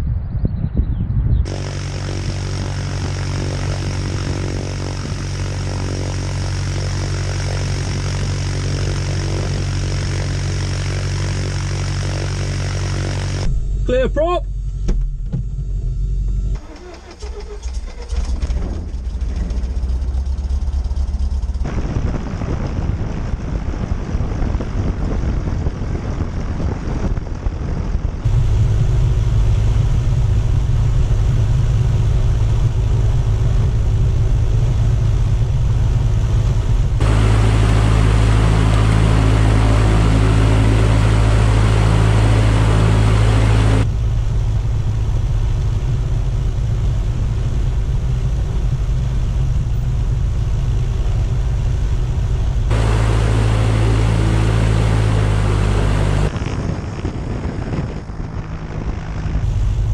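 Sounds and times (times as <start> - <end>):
aircraft piston engine running: 1.5 - 14.8, 15.5 - 59.9.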